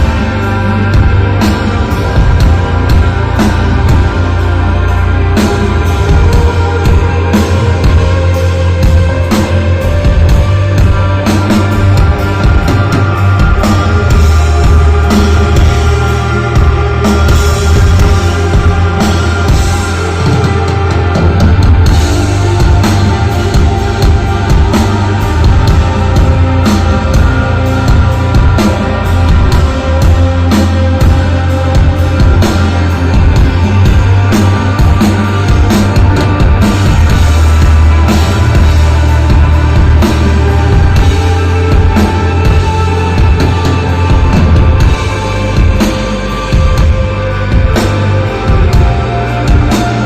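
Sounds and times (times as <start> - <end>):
rock band playing live: 0.0 - 50.0.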